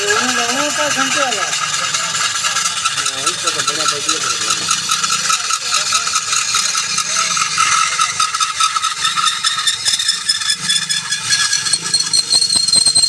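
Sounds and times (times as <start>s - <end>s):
machine high whine: 0.0s - 13.0s
rattling and scraping: 0.0s - 13.0s.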